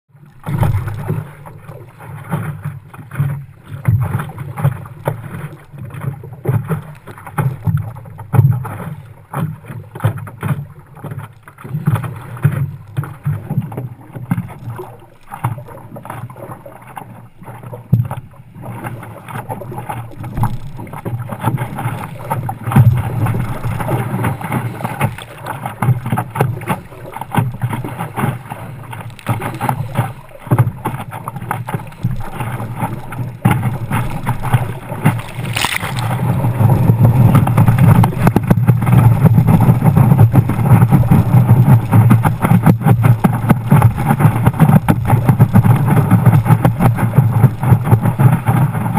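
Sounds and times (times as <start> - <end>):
water splashing against paddleboard: 0.1 - 48.9.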